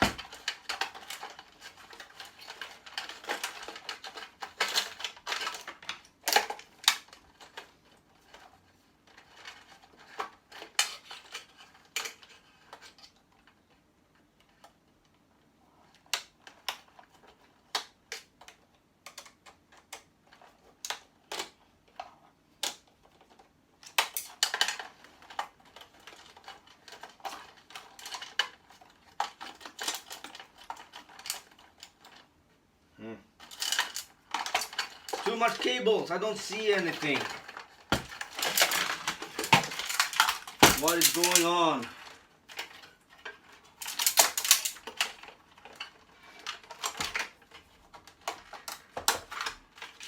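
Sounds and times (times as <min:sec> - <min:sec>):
small parts clicking and rattling: 0:00.0 - 0:32.6, 0:33.3 - 0:50.0.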